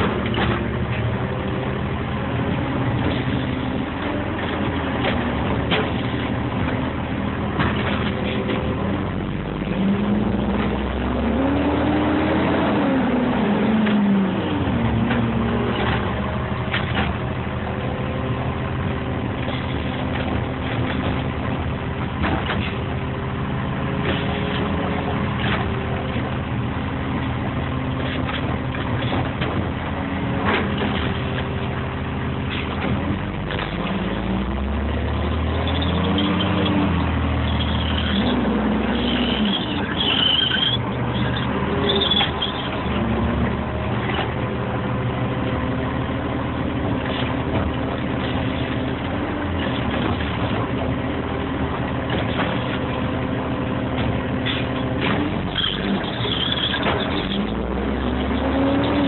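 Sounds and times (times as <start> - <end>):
garbage truck diesel engine: 0.0 - 59.0.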